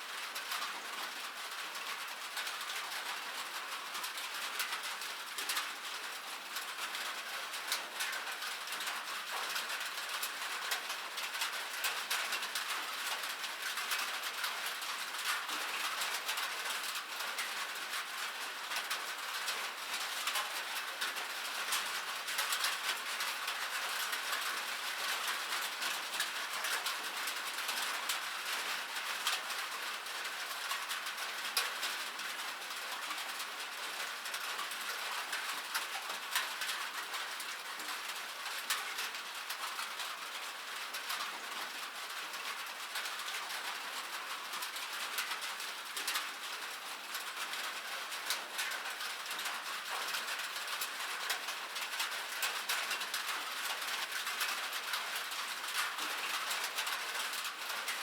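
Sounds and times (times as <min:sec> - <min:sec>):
rain on a metal surface: 0:00.0 - 0:58.0.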